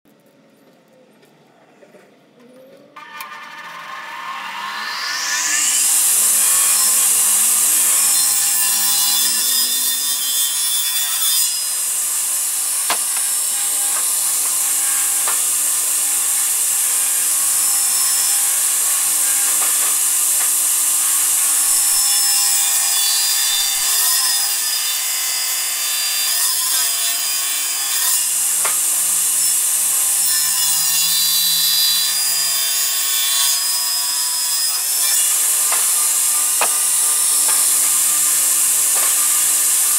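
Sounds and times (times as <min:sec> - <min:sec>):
circular saw cutting wood: 0:02.9 - 0:39.9.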